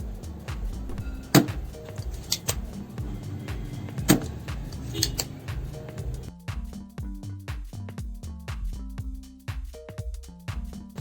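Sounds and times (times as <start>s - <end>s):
background music with beat and bass: 0.0s - 11.0s.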